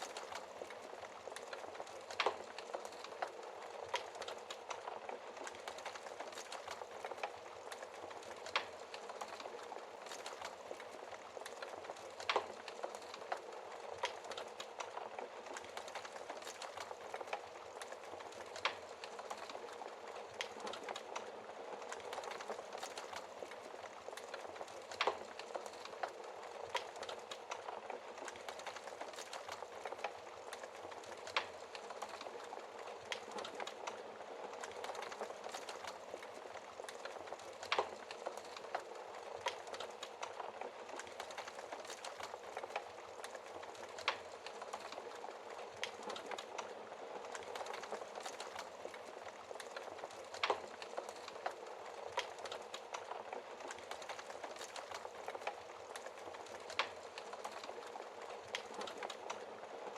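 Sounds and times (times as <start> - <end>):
burning wood popping: 0.0 - 59.9
wood fire crackling: 0.0 - 59.9.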